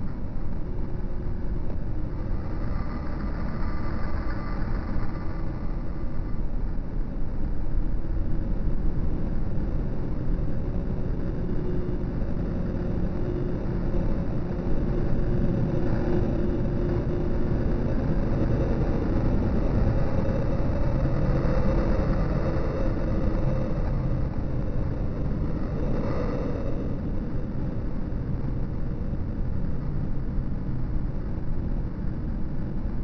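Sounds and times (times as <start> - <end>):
city street traffic rumble: 0.0 - 33.0.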